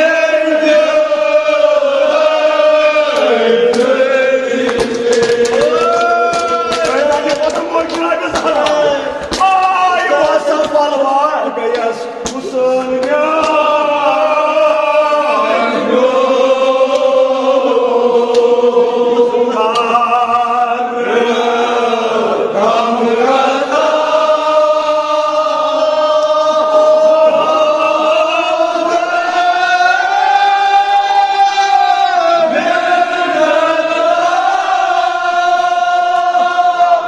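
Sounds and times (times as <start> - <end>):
men chanting mourning elegy: 0.0 - 37.0.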